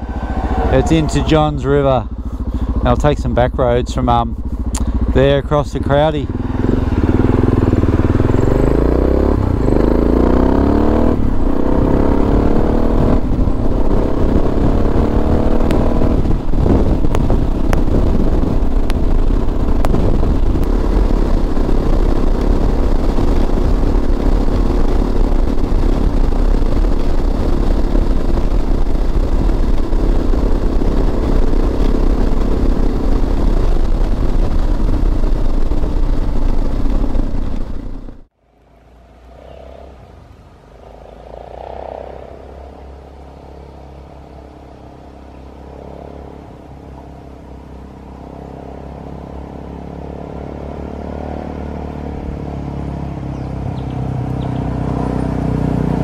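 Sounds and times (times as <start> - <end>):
wind rumble: 0.0 - 45.7
motorcycle engine accelerating: 0.0 - 56.0.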